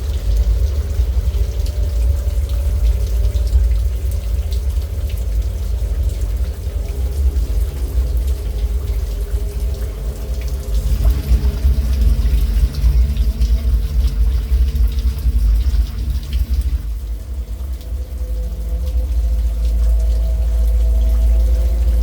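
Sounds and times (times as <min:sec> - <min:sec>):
heavy low rumble: 0:00.0 - 0:22.0
rain falling: 0:00.0 - 0:22.0.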